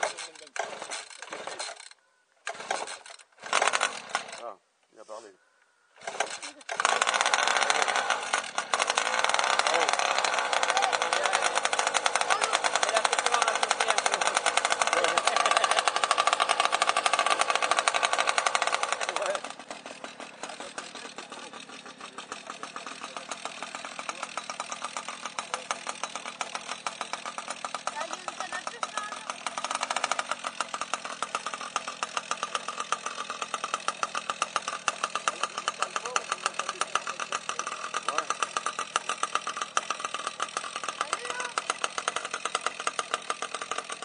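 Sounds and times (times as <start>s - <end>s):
model boat engine popping: 0.0s - 4.6s, 6.0s - 44.0s.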